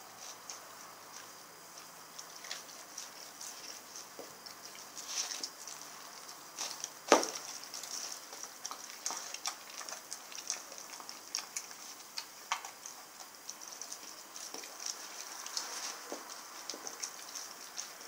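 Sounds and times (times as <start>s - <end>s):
dog chewing meat and bone: 0.1s - 18.0s.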